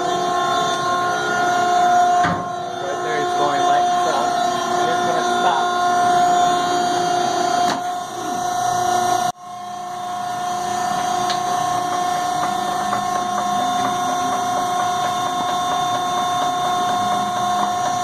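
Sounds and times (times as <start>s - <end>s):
hydraulic power unit whining: 0.0s - 18.0s.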